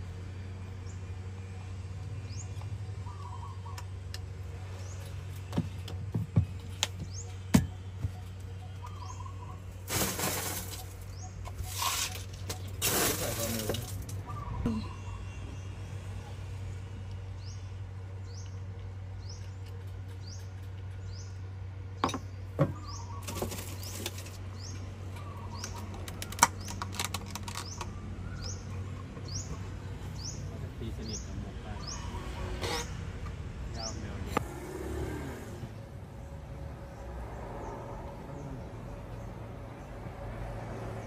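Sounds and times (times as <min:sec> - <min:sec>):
birds chirping: 0:00.4 - 0:40.1.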